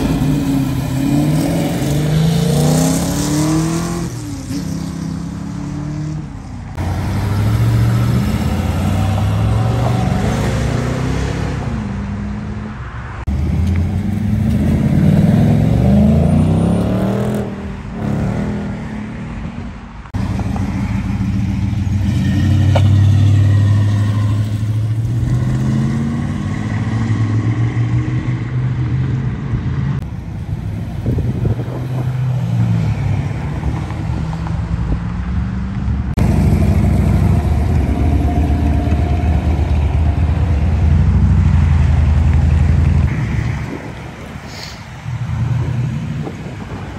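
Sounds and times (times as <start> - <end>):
car engines revving while accelerating: 0.0 - 12.6, 13.2 - 19.2, 20.1 - 30.1, 31.0 - 43.9.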